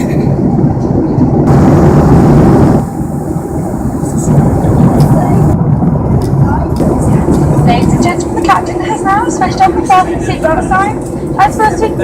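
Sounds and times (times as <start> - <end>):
airplane cabin roar: 0.0 - 12.0
engine and airflow noise: 0.0 - 12.0.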